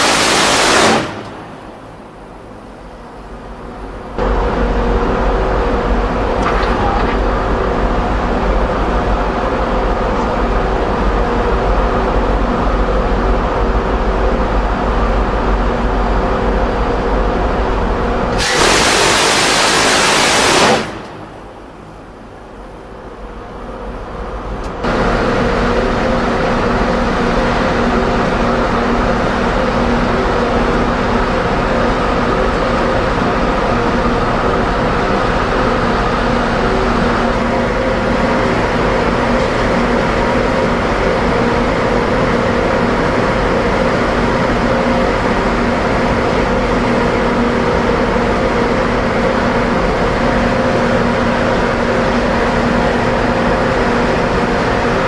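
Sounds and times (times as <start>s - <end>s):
ship machinery humming: 0.0s - 55.0s.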